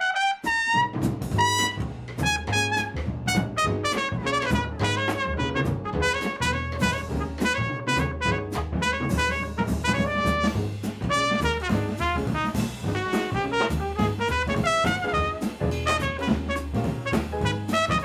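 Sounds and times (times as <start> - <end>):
jazz drum kit: 0.0 - 18.0
low band accompaniment: 0.0 - 18.0
trumpet jazz solo: 0.0 - 18.0.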